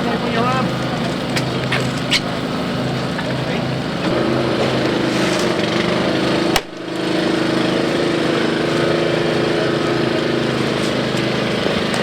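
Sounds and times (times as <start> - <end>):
motor running: 0.0 - 12.0.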